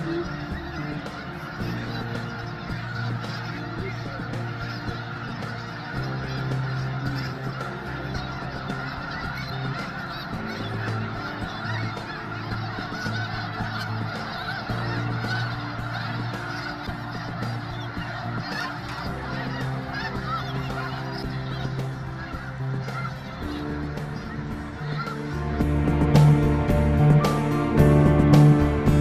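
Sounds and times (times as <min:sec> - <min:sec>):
flock of geese honking: 0:00.0 - 0:29.0.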